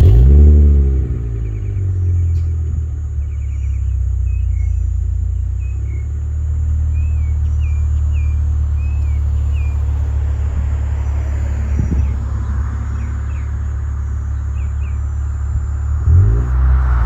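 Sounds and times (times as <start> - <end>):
car engine idling: 0.0 - 17.0
birds chirping faintly: 1.2 - 17.0.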